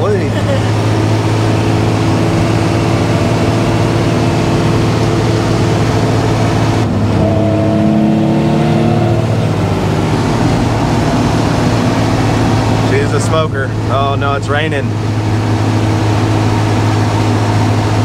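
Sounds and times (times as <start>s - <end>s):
road and tyre noise: 0.0s - 18.0s
truck engine and exhaust drone: 0.0s - 18.0s.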